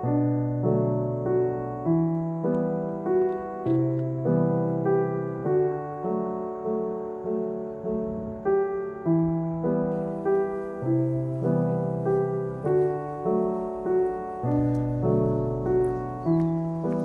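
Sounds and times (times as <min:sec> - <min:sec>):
gentle piano playing: 0:00.0 - 0:17.0.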